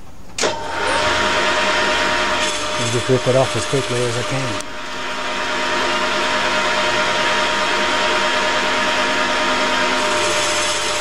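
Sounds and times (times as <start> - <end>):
lathe machine whine: 0.4 - 11.0.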